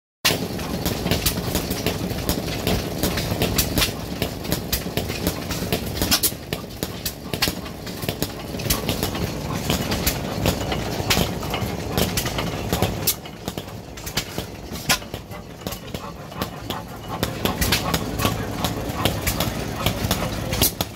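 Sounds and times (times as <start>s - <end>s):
hit-and-miss engine running: 0.3s - 20.9s
sharp engine clicks: 0.3s - 20.9s.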